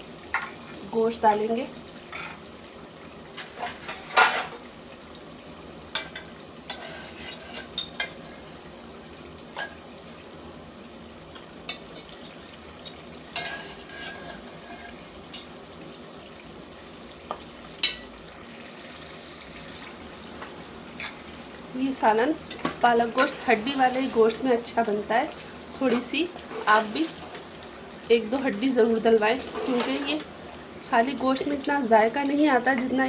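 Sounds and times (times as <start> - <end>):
food sizzling in a pot: 0.0 - 33.0.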